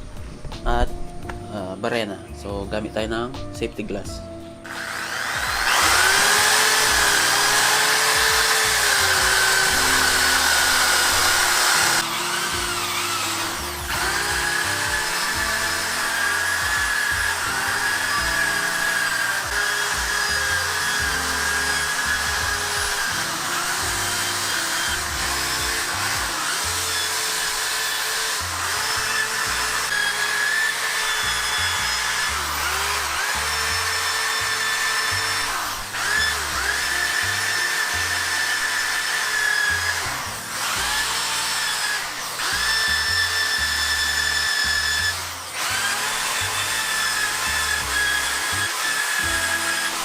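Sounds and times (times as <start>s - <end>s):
background music: 0.0s - 50.0s
electric drill with wire brush: 4.6s - 50.0s.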